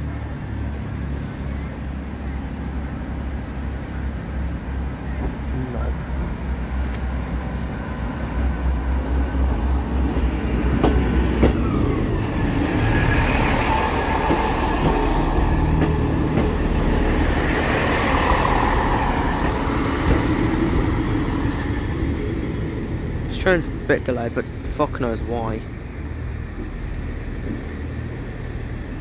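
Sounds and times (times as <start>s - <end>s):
train heavy rumble: 0.0s - 29.0s.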